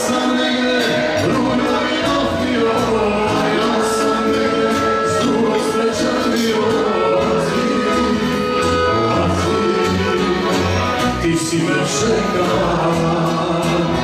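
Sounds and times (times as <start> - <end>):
accordion: 0.0 - 14.0
double bass: 0.0 - 14.0
guitar: 0.0 - 14.0
person singing: 0.0 - 14.0.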